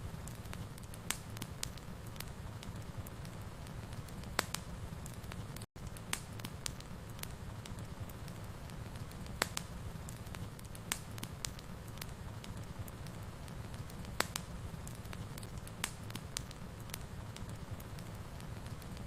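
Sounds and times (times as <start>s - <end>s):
fire low rumble: 0.0s - 19.0s
wood fire crackling: 0.0s - 19.0s.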